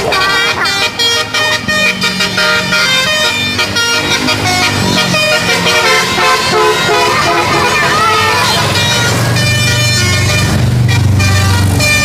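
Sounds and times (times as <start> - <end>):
bus engine running: 0.0 - 12.0
musical air horn tune: 0.0 - 12.0.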